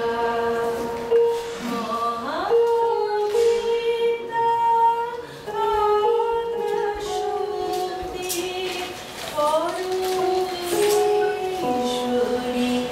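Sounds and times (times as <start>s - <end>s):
electronic keyboard: 0.0s - 12.9s
woman singing slow melody: 0.0s - 12.9s.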